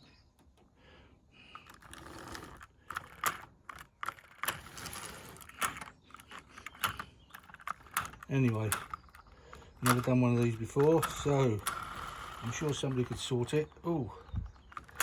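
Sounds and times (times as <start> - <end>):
model locomotive clicks and rattles: 1.5 - 15.0.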